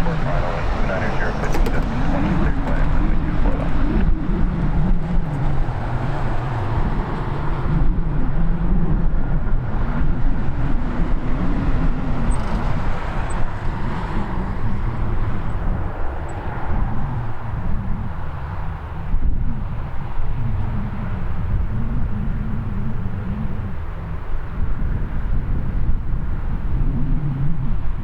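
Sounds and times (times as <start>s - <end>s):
low engine rumble: 0.0s - 28.0s.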